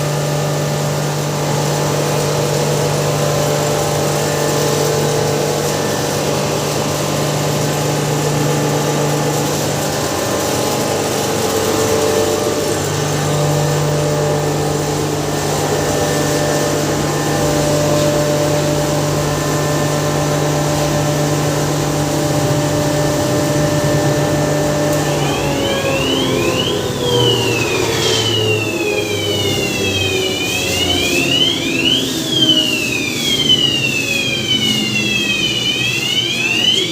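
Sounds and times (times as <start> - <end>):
grinder machine whirring: 0.0 - 36.9.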